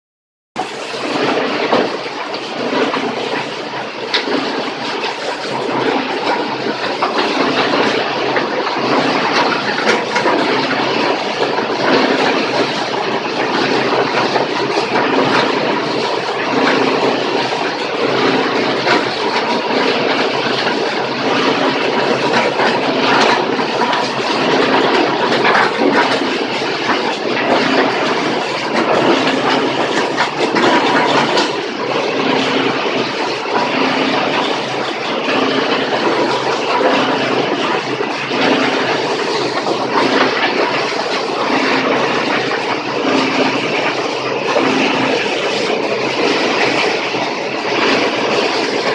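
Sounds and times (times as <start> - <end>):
plastic crusher grinding: 0.6 - 48.9.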